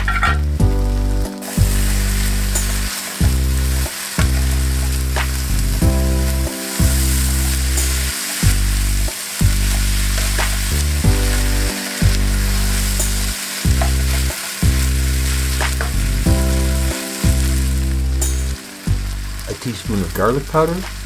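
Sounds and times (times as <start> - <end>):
background music low notes: 0.0 - 21.0
food sizzling in a frying pan: 0.0 - 21.0.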